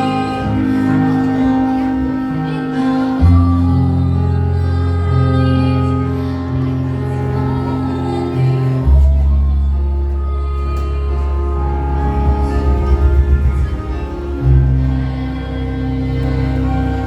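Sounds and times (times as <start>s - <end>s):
deep sustained bass: 0.0s - 17.0s
music with long held notes: 0.0s - 17.0s.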